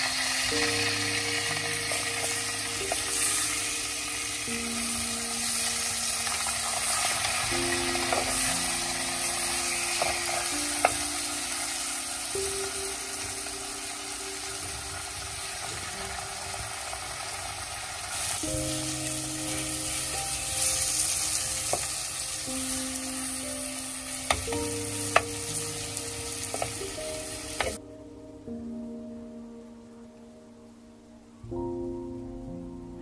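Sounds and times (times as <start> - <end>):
fish sizzling in oil: 0.0 - 27.8
soft background music: 0.0 - 33.0.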